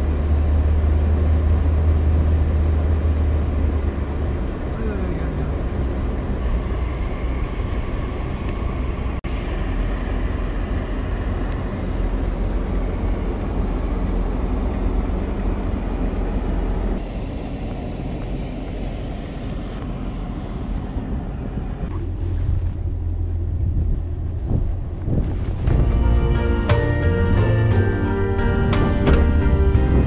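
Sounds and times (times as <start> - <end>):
engine and road noise rumble: 0.0 - 30.0.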